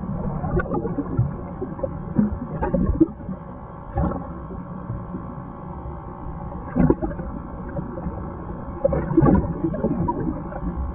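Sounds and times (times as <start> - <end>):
muffled underwater sloshing: 0.0 - 10.9.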